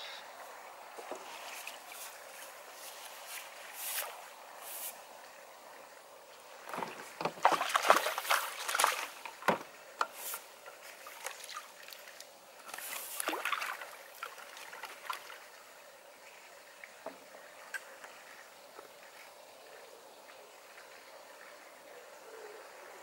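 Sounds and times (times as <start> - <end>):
water splashing and sloshing: 0.5 - 21.8.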